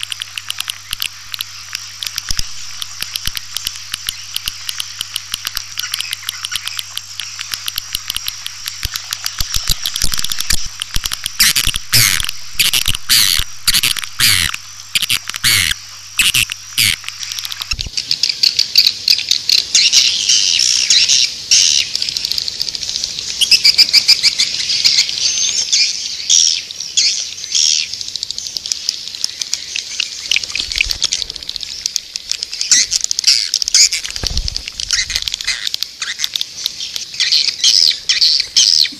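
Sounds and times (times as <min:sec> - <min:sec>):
swiftlets twittering and chirping: 0:00.0 - 0:38.9.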